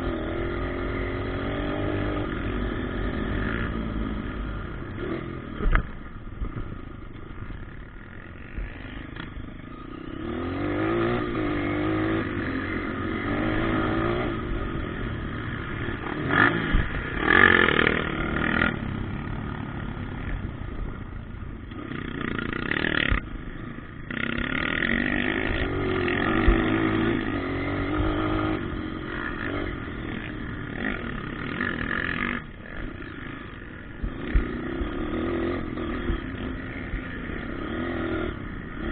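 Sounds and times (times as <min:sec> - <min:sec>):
motocross bikes revving: 0:00.0 - 0:38.9.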